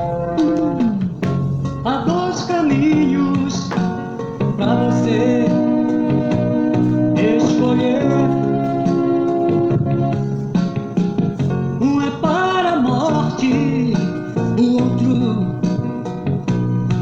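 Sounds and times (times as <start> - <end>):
instrumental pop music with guitar: 0.0 - 17.0.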